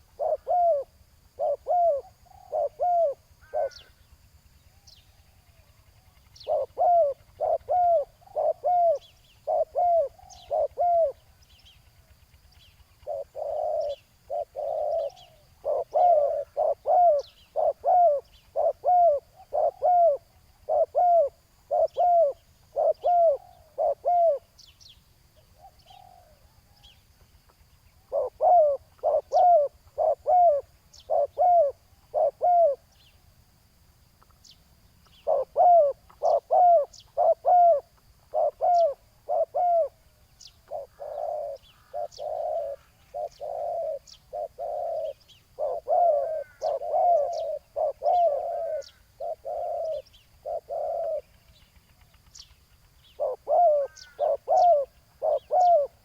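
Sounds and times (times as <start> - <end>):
doves cooing: 0.0 - 4.0, 5.2 - 12.2, 12.8 - 24.5, 25.4 - 26.8, 28.0 - 32.9, 35.1 - 52.2, 53.0 - 56.0.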